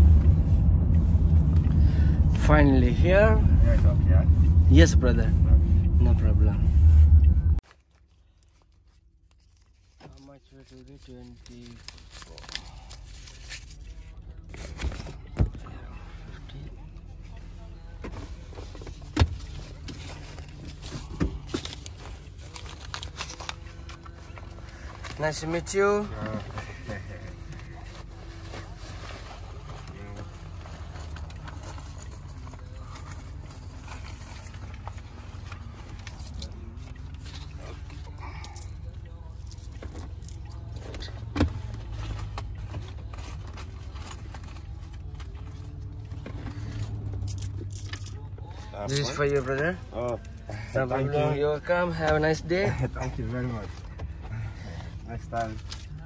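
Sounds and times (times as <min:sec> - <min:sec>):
car cabin engine rumble: 0:00.0 - 0:07.6, 0:13.8 - 0:56.0.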